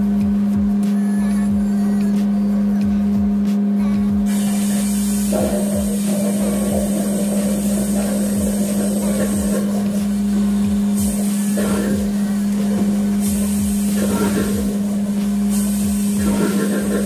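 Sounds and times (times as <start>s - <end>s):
steady machine drone: 0.0s - 17.0s.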